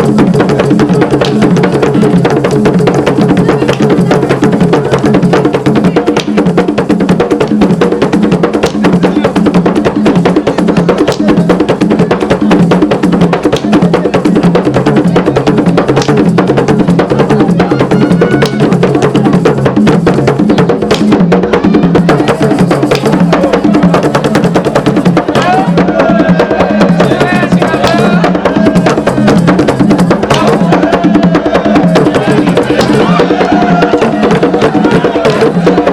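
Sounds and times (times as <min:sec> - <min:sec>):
deep drums beating: 0:00.0 - 0:35.9.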